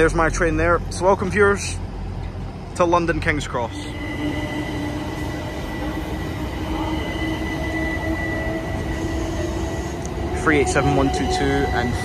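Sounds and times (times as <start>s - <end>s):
electric train traction whine: 0.0s - 12.0s
rumble of wheels on rail: 0.0s - 12.0s.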